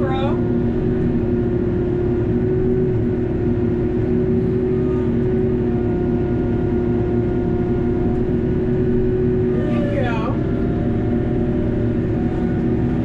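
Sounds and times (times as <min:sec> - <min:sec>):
tractor engine running under load: 0:00.0 - 0:13.0
hydraulic pump whine: 0:00.4 - 0:13.0.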